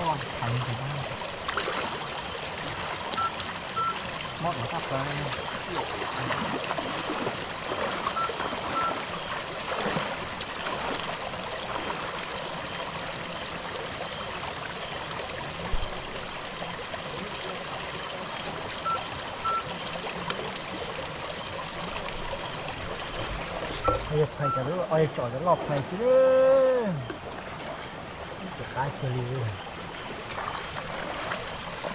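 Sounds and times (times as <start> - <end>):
stream water rushing: 0.0 - 31.9.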